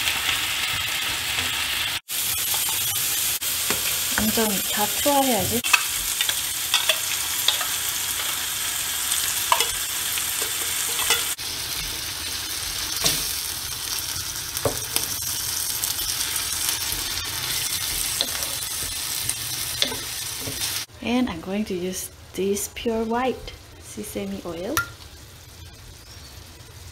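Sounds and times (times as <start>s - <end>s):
food sizzling in a frying pan: 0.0s - 20.9s, 22.0s - 26.9s.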